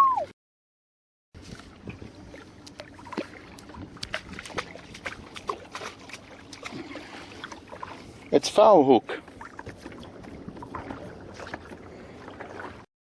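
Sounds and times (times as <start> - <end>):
water lapping against kayak hull: 1.4 - 12.9.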